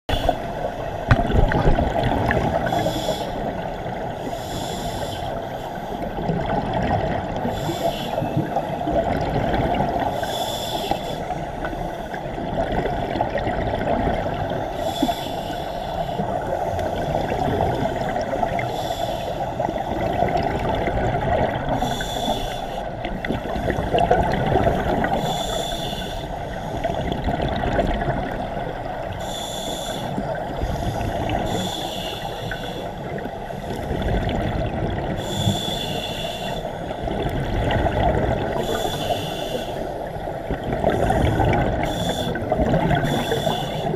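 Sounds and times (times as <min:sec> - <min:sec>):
low rumble of water: 0:00.1 - 0:43.9
regulator bubbles gurgling underwater: 0:00.1 - 0:43.9.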